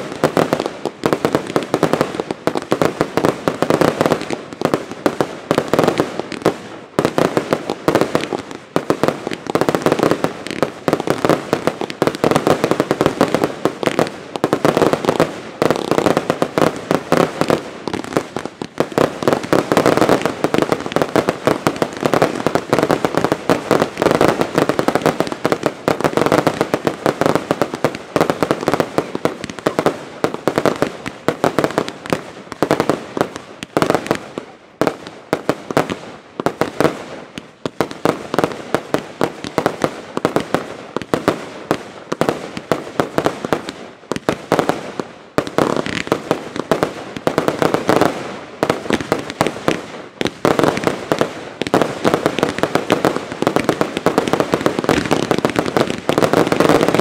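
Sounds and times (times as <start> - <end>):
fireworks banging: 0.0 - 57.0.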